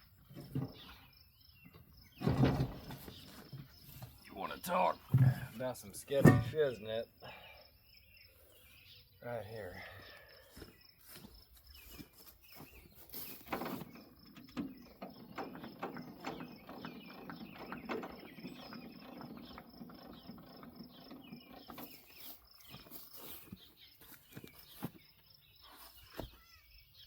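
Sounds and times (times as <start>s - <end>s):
insects chirping: 0.1s - 27.0s.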